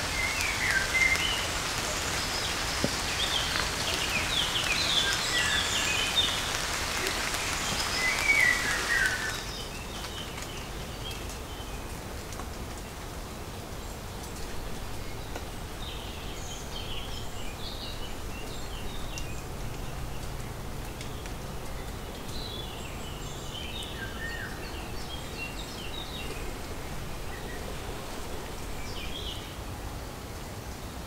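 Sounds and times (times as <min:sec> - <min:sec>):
small birds chirping: 0:00.0 - 0:12.0, 0:13.8 - 0:29.7
light rain and wind: 0:00.0 - 0:31.0.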